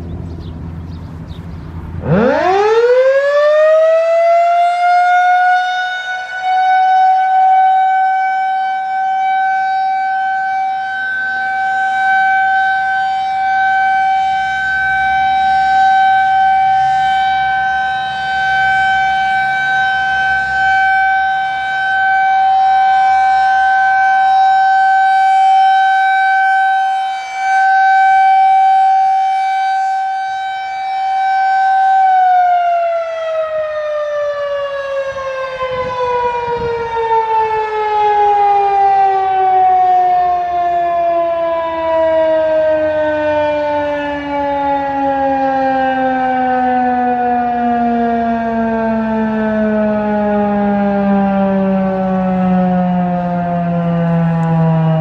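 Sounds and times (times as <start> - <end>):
rotating warning siren: 0.0 - 55.0.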